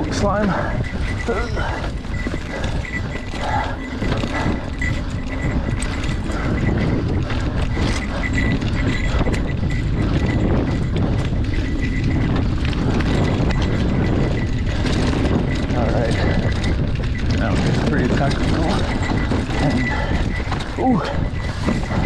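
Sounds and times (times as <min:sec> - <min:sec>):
bike clicks and rattles: 0:00.0 - 0:22.0
bike tyres rumbling on dirt: 0:00.0 - 0:22.0.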